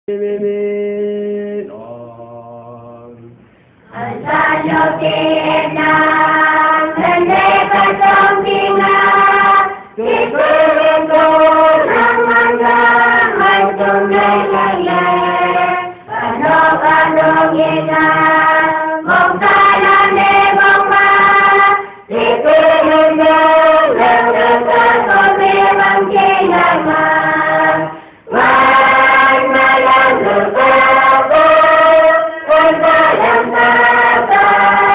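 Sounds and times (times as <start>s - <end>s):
choir singing unaccompanied: 0.2s - 34.9s.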